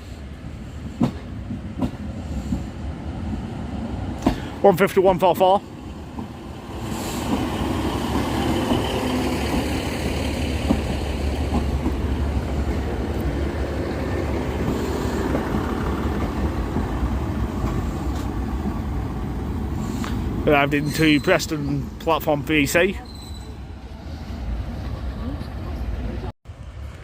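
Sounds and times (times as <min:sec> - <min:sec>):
diesel train engines rumbling: 0:00.0 - 0:27.0
train wheels on rail: 0:00.0 - 0:27.0.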